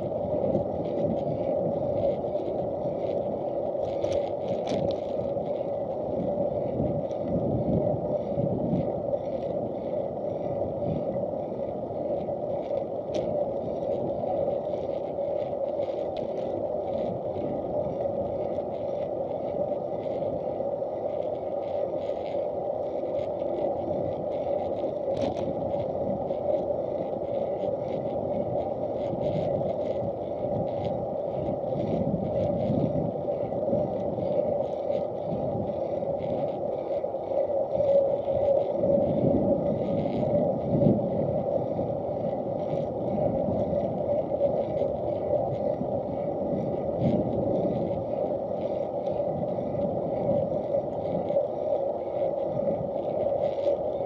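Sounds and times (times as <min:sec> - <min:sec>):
wheels rolling on asphalt: 0:00.0 - 0:54.0
wind: 0:00.0 - 0:54.0.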